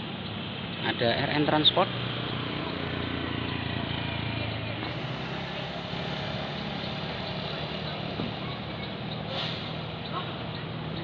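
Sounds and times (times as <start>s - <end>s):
bus diesel engine humming: 0.0s - 11.0s.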